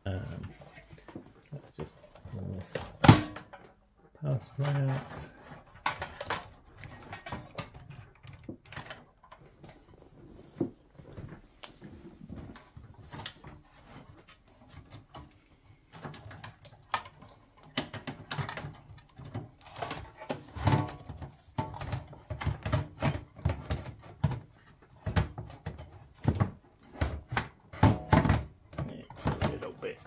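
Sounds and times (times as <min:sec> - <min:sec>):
metal and plastic clicks and rattles: 0:00.2 - 0:10.4, 0:12.3 - 0:30.0.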